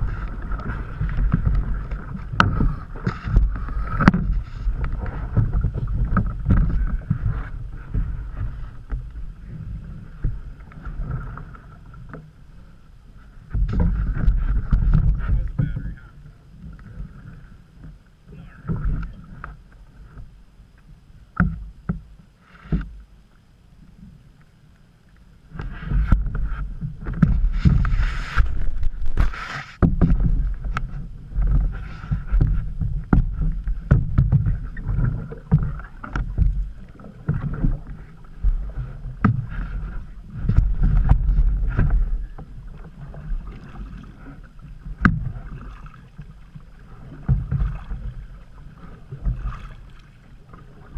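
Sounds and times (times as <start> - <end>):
paddle knocking against hull: 0.0 - 12.3, 13.4 - 17.2, 21.3 - 23.0, 25.5 - 50.9
paddle splashing in water: 0.0 - 20.2, 25.5 - 50.9
low rumble: 0.0 - 21.8, 25.4 - 46.4.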